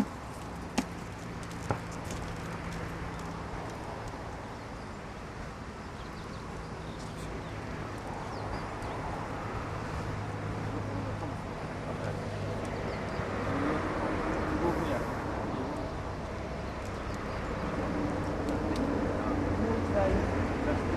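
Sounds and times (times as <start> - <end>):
vehicle approaching: 0.0 - 20.9.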